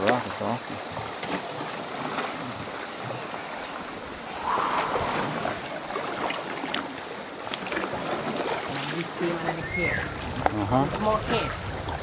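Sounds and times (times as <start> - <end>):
paddle splash: 0.0 - 12.0
water lapping around canoe: 0.0 - 12.0.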